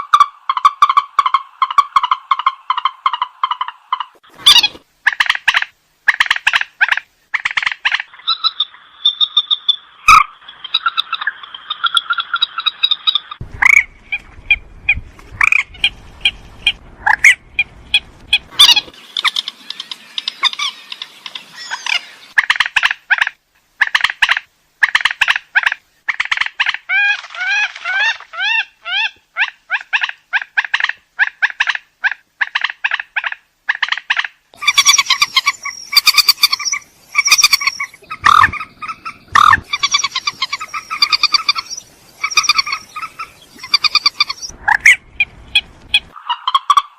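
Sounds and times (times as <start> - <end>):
rail bird calls: 0.0 - 46.9.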